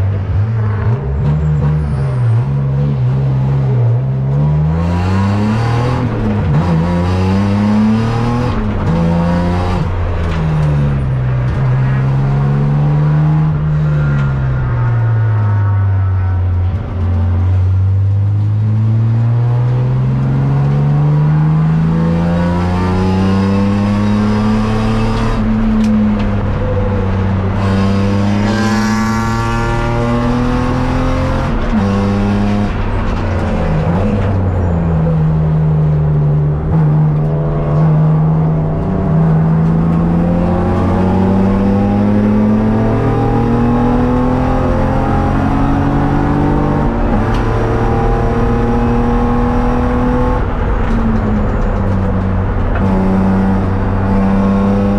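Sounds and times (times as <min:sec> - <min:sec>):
race car engine at high revs: 0:00.0 - 0:14.5, 0:16.7 - 0:54.9.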